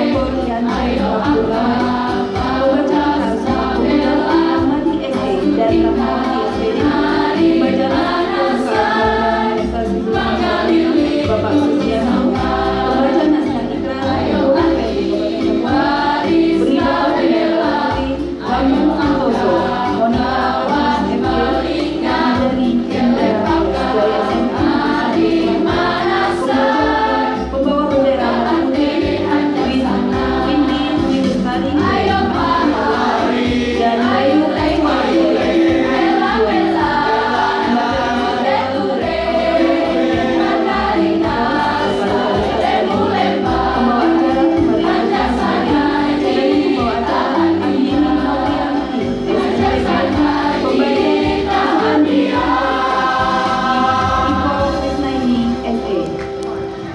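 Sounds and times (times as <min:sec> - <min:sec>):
choir singing: 0:00.0 - 0:55.2.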